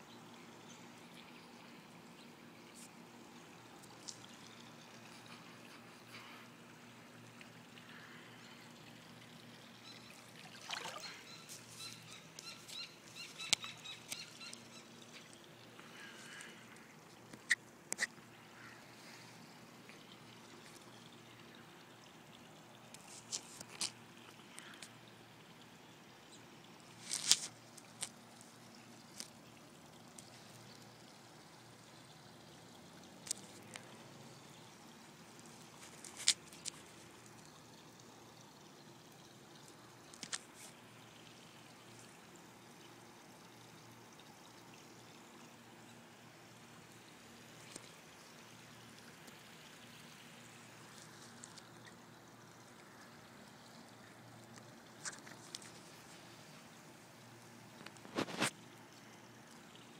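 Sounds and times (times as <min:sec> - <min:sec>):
faint background noise: 0:00.0 - 0:59.9.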